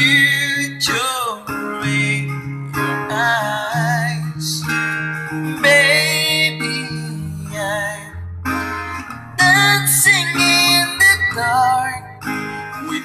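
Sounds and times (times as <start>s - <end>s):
man singing into microphone: 0.0s - 8.2s, 9.4s - 12.1s, 12.8s - 13.0s
strummed acoustic guitar: 0.0s - 13.0s.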